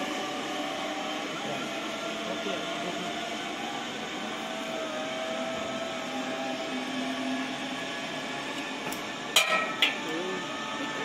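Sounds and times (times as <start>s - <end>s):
zip-line pulleys whirring on cable: 0.0s - 11.0s.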